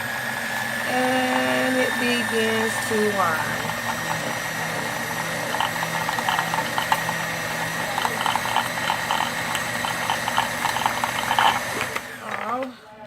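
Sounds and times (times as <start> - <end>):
sewing machine motor hum: 0.0 - 12.9.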